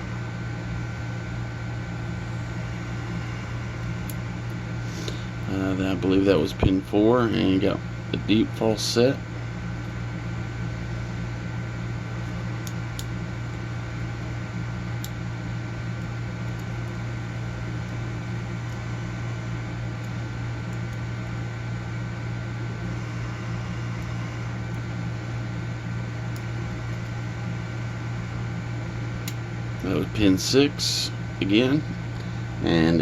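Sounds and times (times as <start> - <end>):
fan hum: 0.0 - 33.0.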